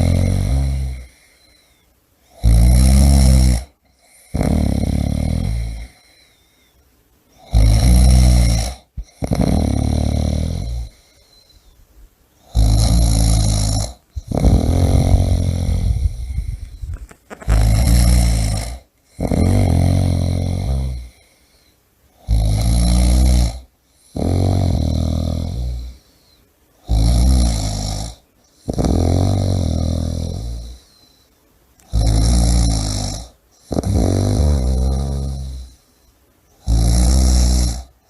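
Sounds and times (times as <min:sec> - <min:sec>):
person snoring loudly: 0:00.0 - 0:01.5, 0:02.3 - 0:06.3, 0:07.4 - 0:11.2, 0:12.4 - 0:21.3, 0:22.2 - 0:26.0, 0:26.8 - 0:31.0, 0:31.8 - 0:35.8, 0:36.6 - 0:38.0.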